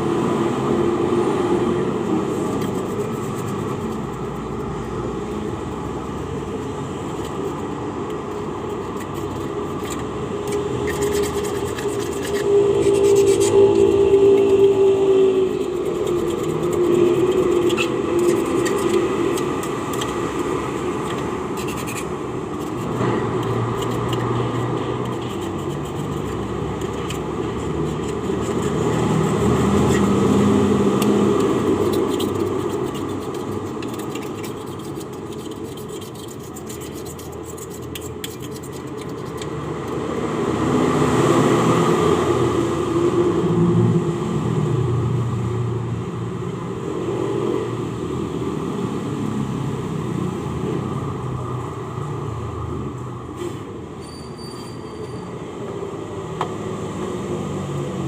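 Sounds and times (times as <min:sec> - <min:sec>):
passing motor vehicles: 0:00.0 - 0:54.0, 0:55.2 - 0:58.0.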